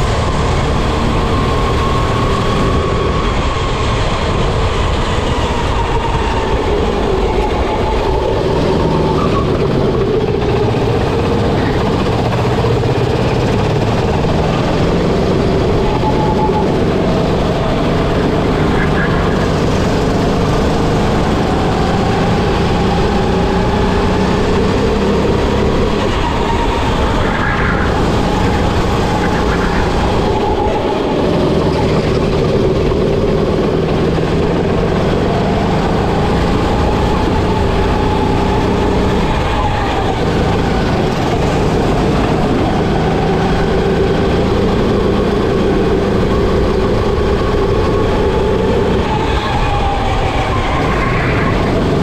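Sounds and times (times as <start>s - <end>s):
go-kart engine racing: 0.0s - 52.0s
wind and tyre rush: 0.0s - 52.0s.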